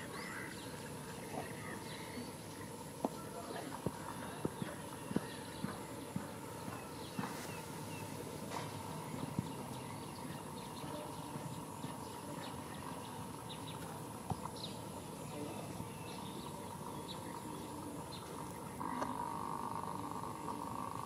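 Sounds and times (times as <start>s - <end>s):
steady hiss and hum: 0.0s - 21.0s.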